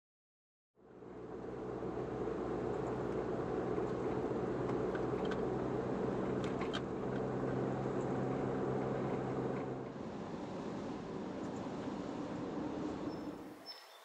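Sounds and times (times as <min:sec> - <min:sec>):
van engine hum: 0:00.8 - 0:13.7
tyre and road noise: 0:00.9 - 0:14.0.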